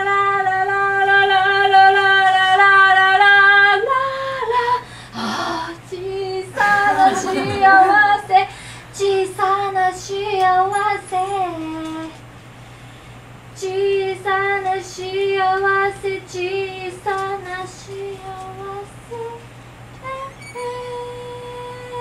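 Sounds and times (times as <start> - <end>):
woman singing: 0.0 - 12.2, 13.6 - 19.4, 20.0 - 22.0.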